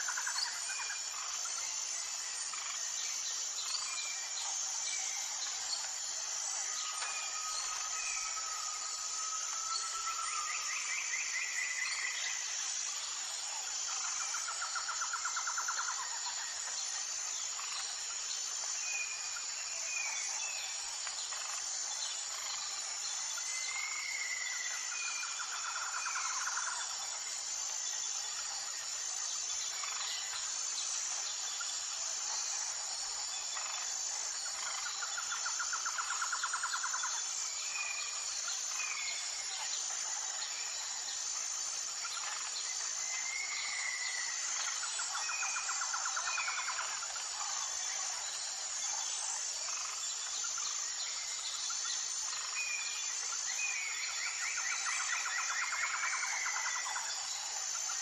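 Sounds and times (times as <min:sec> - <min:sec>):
constant hiss: 0:00.0 - 0:58.0
high-pitched insect drone: 0:00.0 - 0:58.0.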